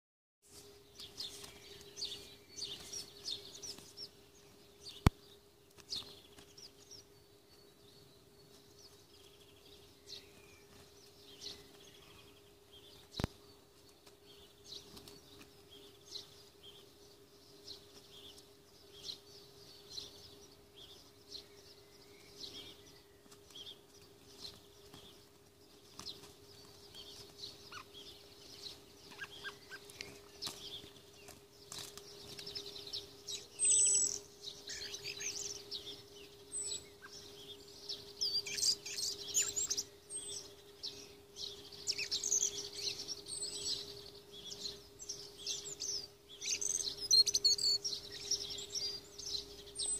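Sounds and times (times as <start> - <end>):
steady low hum: 0.5 - 49.9
birds chirping: 0.6 - 49.9.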